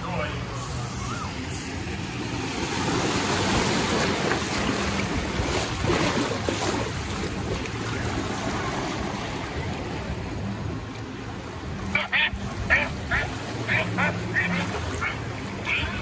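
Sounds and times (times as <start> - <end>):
water rushing and churning: 0.0 - 16.0.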